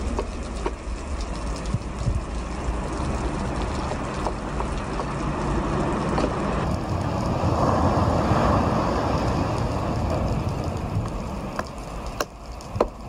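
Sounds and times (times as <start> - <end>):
wind buffeting microphone: 0.0 - 13.0
surf washing up pebble beach: 2.5 - 13.0.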